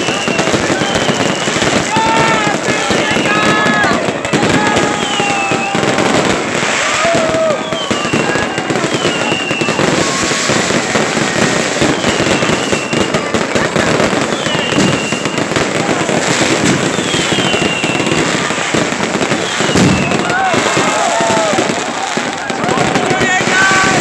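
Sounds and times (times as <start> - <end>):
fireworks crackling and popping: 0.0 - 24.0
fireworks whistles: 0.0 - 24.0.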